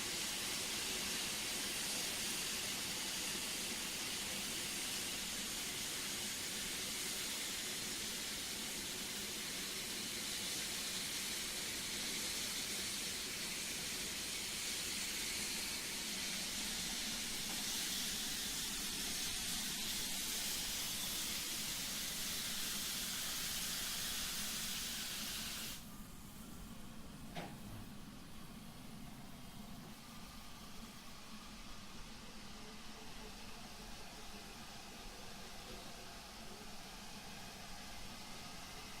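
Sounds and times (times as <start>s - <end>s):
steam locomotive hissing steam: 0.0s - 26.6s, 29.3s - 39.0s.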